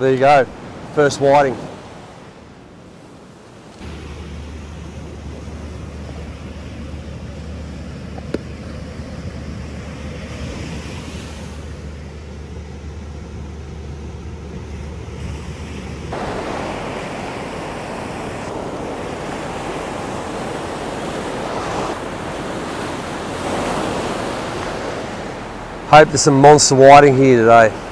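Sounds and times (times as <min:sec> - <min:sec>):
ocean surf breaking: 0:00.0 - 0:27.9
wind buffeting microphone: 0:00.0 - 0:27.9.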